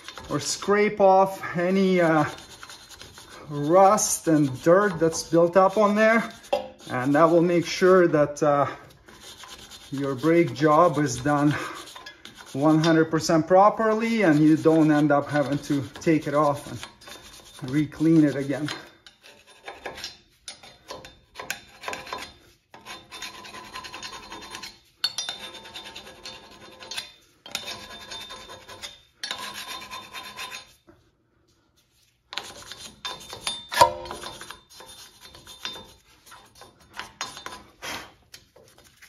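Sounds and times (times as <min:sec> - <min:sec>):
hand scraper scraping rust off metal: 0:00.0 - 0:30.9, 0:32.3 - 0:39.0.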